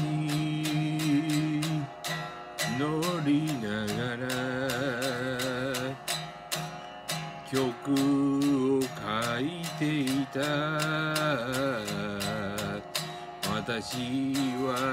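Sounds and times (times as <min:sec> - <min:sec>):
man singing: 0:00.0 - 0:06.3, 0:07.4 - 0:14.9
strummed electric guitar: 0:00.0 - 0:14.9.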